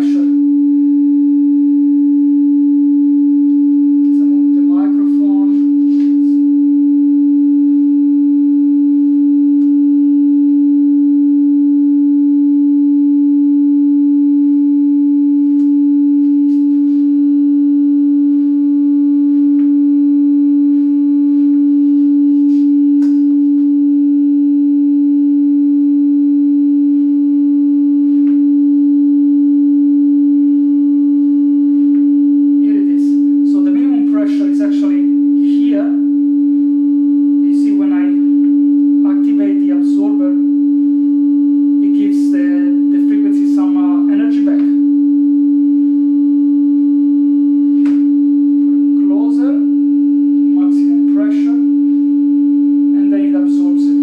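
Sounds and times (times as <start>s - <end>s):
steady sine test tone: 0.0s - 54.0s.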